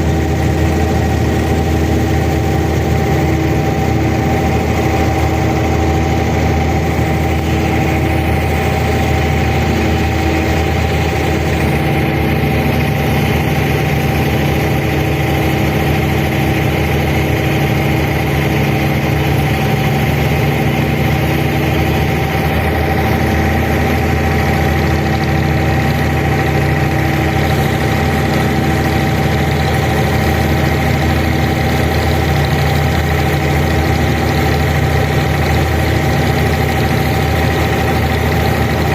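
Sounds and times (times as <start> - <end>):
boat diesel engine droning: 0.0 - 38.9.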